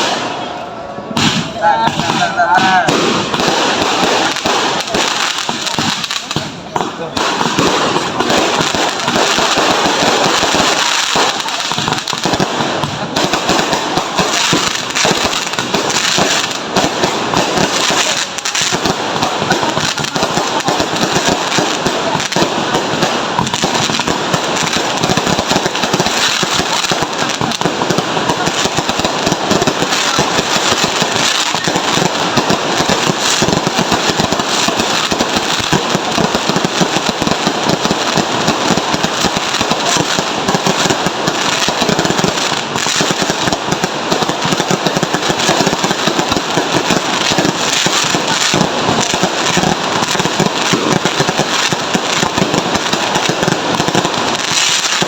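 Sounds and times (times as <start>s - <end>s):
fireworks crackling pops: 0.0s - 55.0s.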